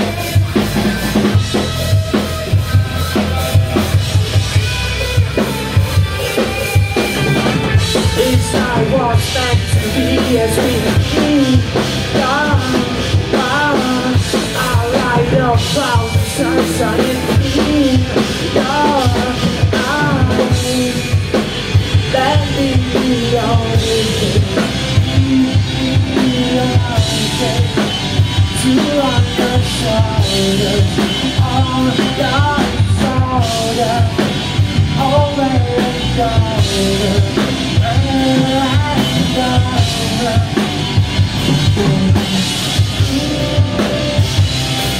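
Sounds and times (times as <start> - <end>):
bass: 0.0 - 44.9
drum kit beat: 0.0 - 44.9.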